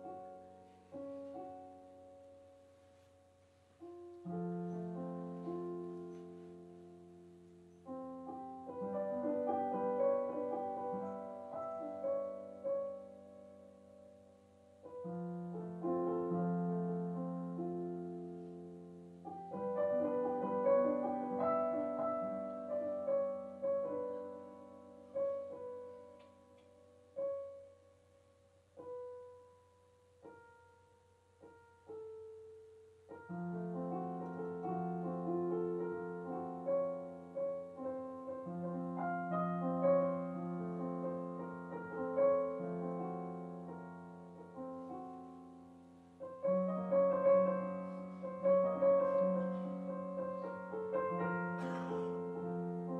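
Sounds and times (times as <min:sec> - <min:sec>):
solo piano music: 0:00.0 - 0:52.9.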